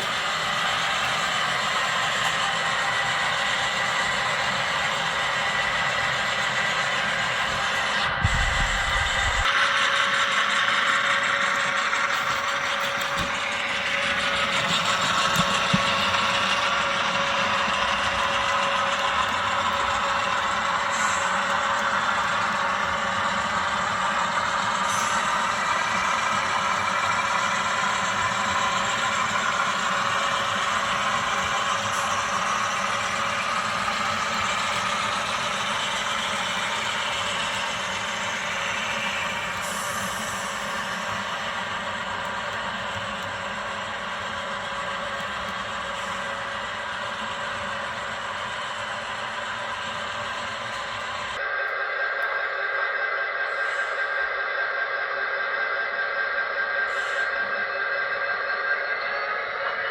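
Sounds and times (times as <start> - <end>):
hiss: 0.0 - 51.4, 53.4 - 54.2, 56.8 - 57.5
model train humming: 0.0 - 59.9.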